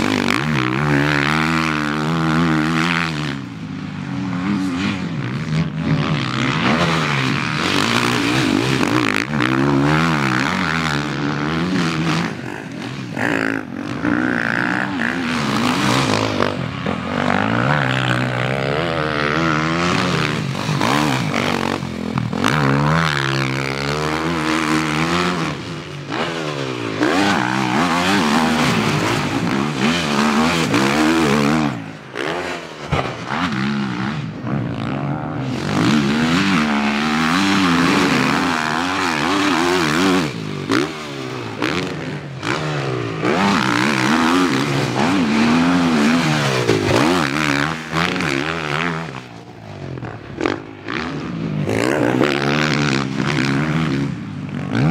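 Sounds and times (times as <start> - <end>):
motocross bike engines revving: 0.0 - 54.9.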